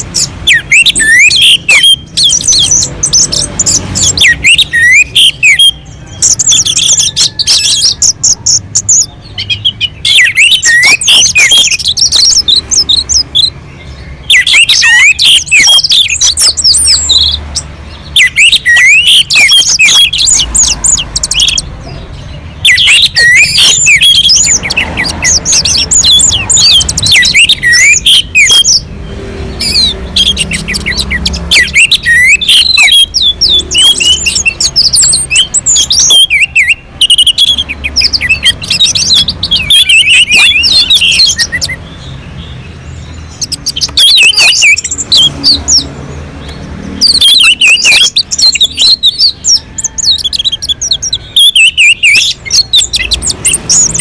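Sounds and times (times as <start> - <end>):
thrush singing: 0.0 - 54.0.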